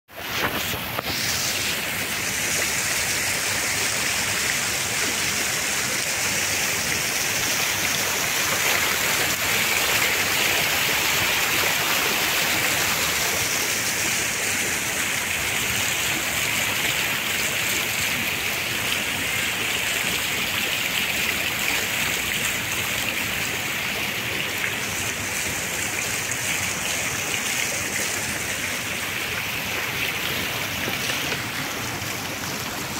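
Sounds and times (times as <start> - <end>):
fountain water splashing: 0.1 - 32.9.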